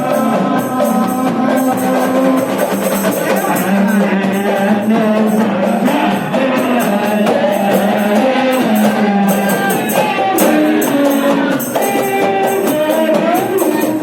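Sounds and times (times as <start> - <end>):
jingling tambourine-like percussion: 0.0 - 14.0.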